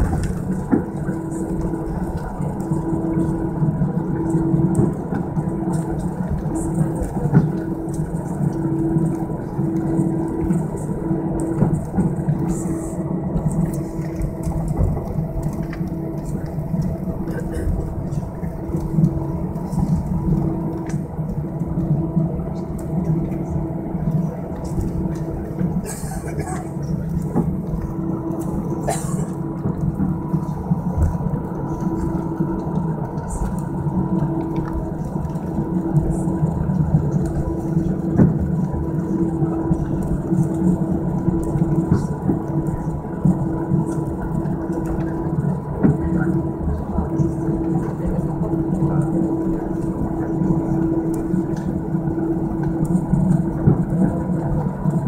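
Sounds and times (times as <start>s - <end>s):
airplane cabin engine rumble: 0.0s - 55.0s
faint steady hum: 0.0s - 55.0s.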